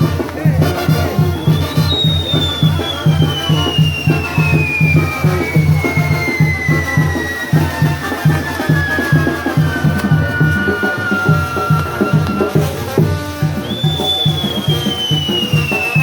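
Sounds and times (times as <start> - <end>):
brass band playing: 0.0 - 16.0
steady drum beat: 0.0 - 16.0
high whistle falling in pitch: 1.1 - 12.8, 13.4 - 16.0.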